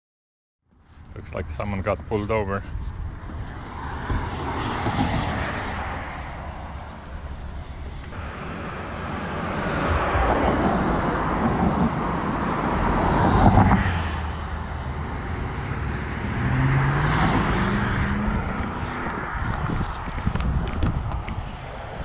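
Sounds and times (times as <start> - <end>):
road vehicles passing: 0.7 - 22.0.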